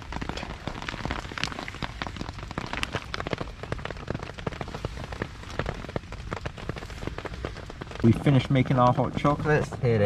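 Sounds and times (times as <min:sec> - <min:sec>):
heavy rain falling: 0:00.0 - 0:10.0
raindrops tapping on a surface: 0:00.0 - 0:10.0.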